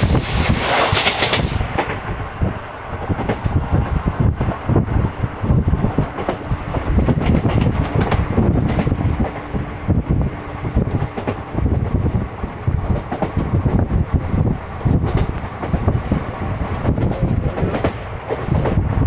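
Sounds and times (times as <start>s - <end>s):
train wheels rumbling on rails: 0.0s - 19.0s
wind buffeting microphone: 0.0s - 19.0s.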